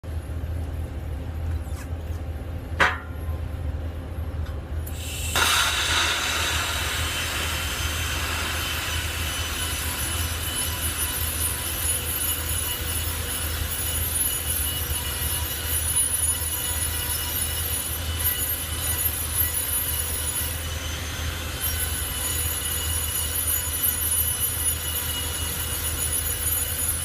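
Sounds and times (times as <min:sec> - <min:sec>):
faint high whine: 0:04.9 - 0:27.0
welding arc hissing: 0:04.9 - 0:27.0.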